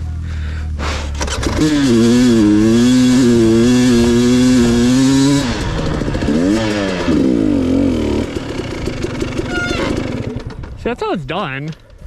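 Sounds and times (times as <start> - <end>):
dirt bike engine revving: 0.8 - 10.9.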